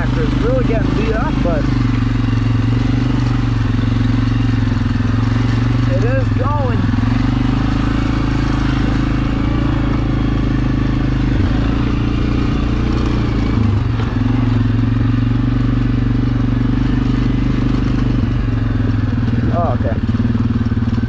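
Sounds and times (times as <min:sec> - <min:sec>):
atv engine running under load: 0:00.0 - 0:21.0.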